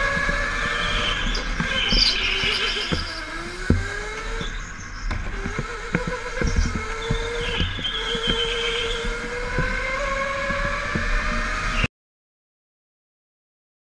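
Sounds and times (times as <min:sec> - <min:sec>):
go-kart motor revving: 0:00.0 - 0:11.9
kart knocks and rattles: 0:00.0 - 0:11.9.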